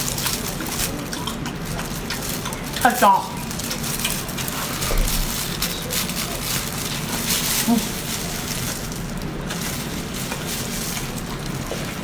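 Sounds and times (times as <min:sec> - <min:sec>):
stirring clicks and scrapes: 0:00.0 - 0:12.0.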